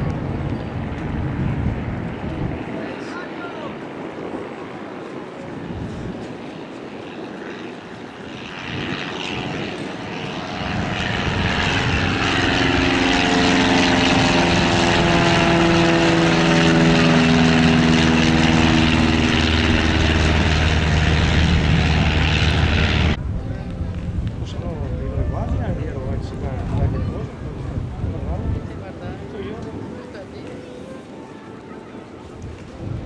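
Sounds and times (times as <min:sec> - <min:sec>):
propeller aircraft flying overhead: 0:00.0 - 0:33.0.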